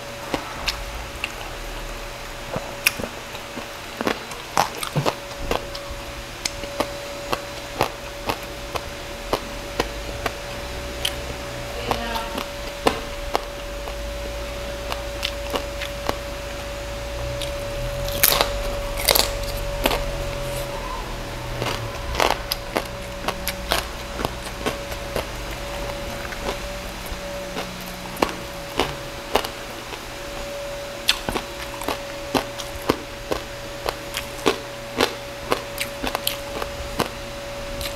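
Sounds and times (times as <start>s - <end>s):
faint steady hum: 0.0s - 37.9s
crispy pork skin crunching: 0.1s - 37.9s.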